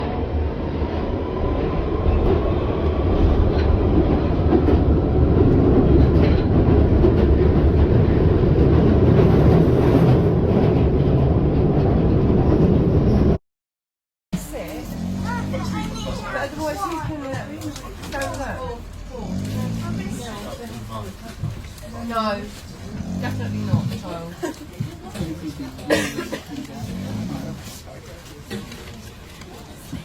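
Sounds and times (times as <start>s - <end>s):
underground train running: 0.0s - 13.4s, 14.4s - 30.0s.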